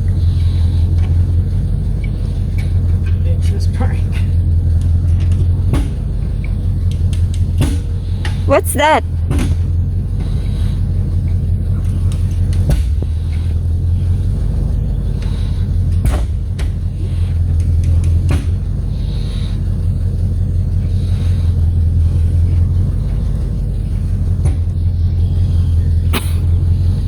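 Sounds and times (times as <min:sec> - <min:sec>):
engine humming: 0:00.0 - 0:08.5, 0:09.2 - 0:27.0.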